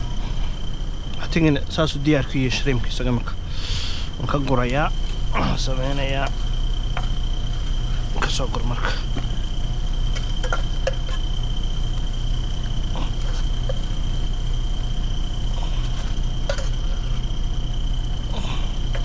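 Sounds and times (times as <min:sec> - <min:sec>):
high whine: 0:00.0 - 0:19.0.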